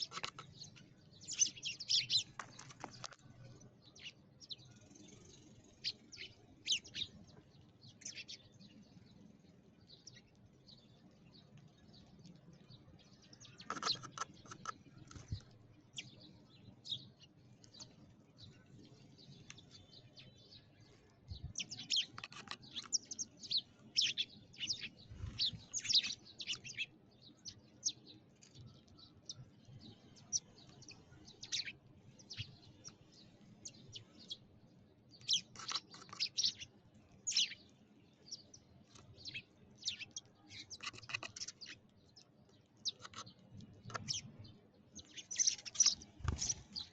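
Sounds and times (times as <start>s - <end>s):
sparrows chirping: 0.0s - 46.9s.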